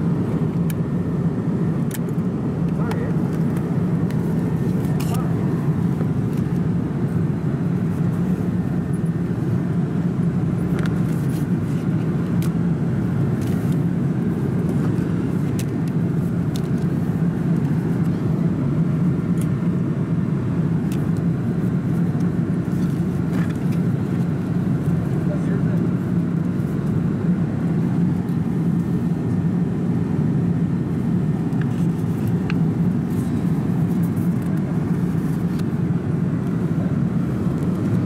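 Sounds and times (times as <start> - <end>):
airplane cabin hum: 0.0 - 38.0.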